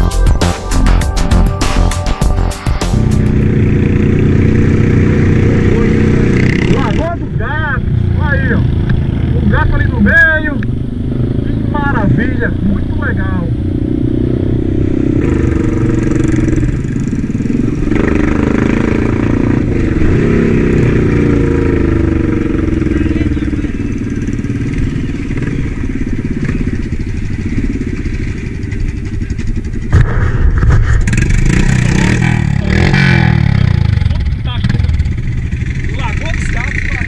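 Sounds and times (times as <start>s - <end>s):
loud rough noise: 0.0s - 37.0s
quad bike engine running: 2.8s - 37.0s.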